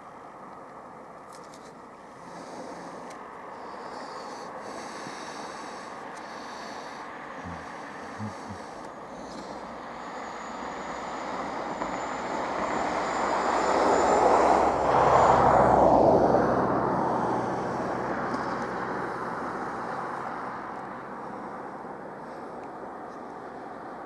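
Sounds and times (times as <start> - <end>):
vehicle passing by: 2.2 - 22.4.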